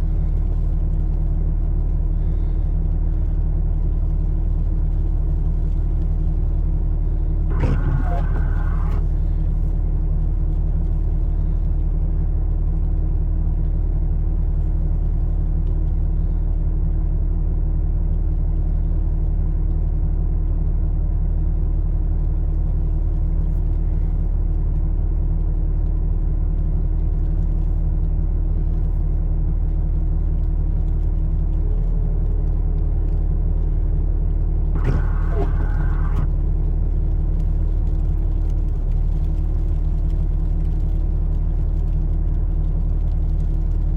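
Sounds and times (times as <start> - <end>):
vehicle engine idling: 0.0 - 43.9.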